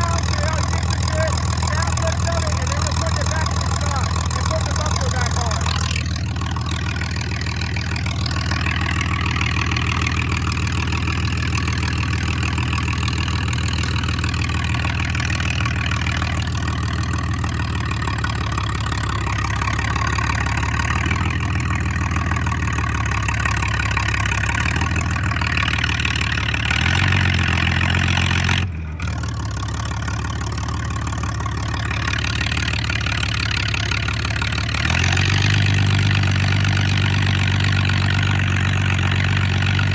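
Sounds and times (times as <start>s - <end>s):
loud tractor engine idling: 0.0s - 39.9s.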